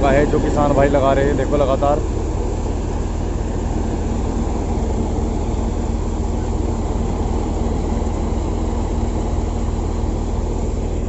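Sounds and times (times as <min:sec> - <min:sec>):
tractor engine hum: 0:00.0 - 0:11.0.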